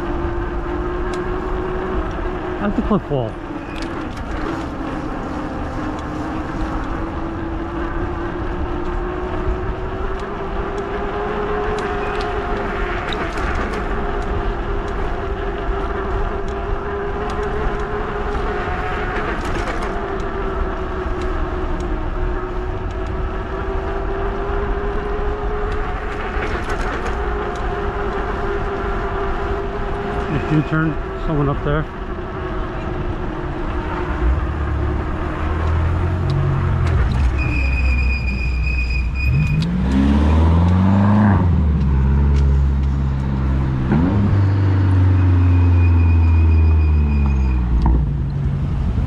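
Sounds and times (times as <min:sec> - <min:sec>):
wind and road rumble: 0:00.0 - 0:49.0.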